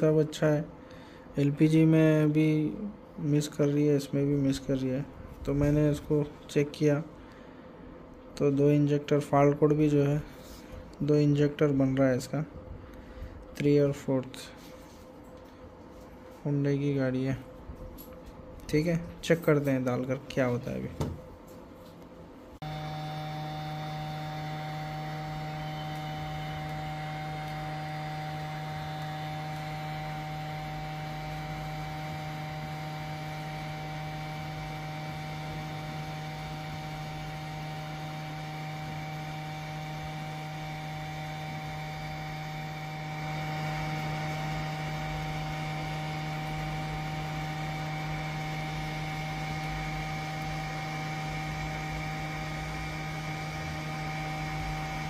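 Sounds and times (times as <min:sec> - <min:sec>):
electric hum with fixed tones: 0:00.0 - 0:55.0.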